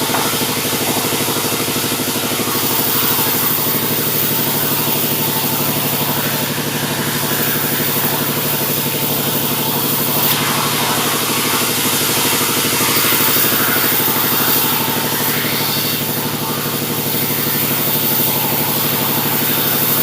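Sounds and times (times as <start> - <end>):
hiss: 0.0 - 20.0
sawmill engine running: 0.0 - 20.0.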